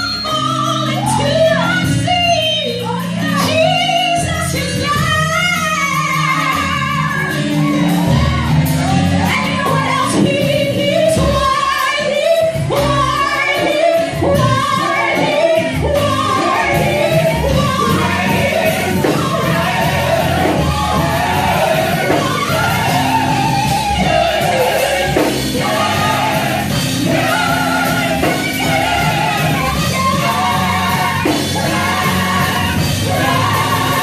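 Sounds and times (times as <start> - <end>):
person singing gospel: 0.0 - 34.0
instrumental accompaniment: 0.2 - 34.0.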